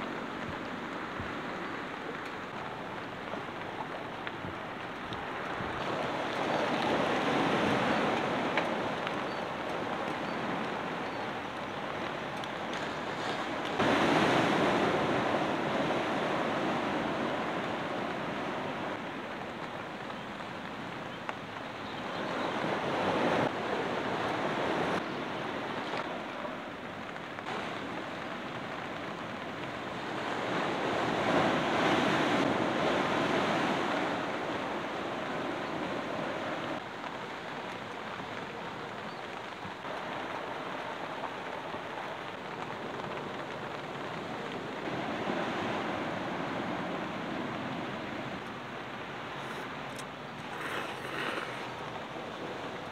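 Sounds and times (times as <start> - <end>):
steady wash of sea: 0.0 - 52.9
waves breaking on beach: 0.0 - 52.9.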